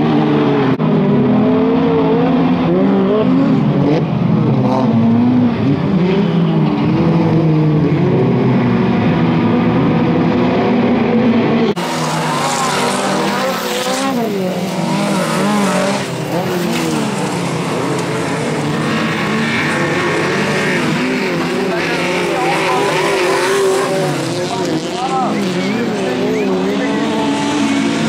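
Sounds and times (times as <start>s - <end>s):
racing car engines revving: 0.0s - 28.0s.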